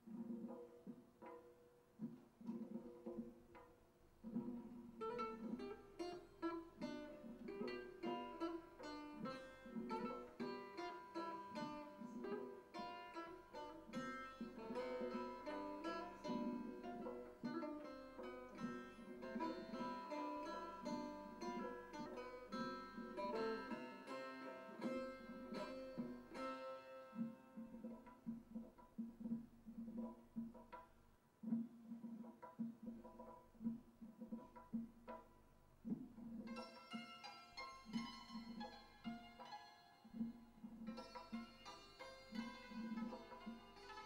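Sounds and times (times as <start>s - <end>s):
plucked string instrument: 0.0s - 44.0s.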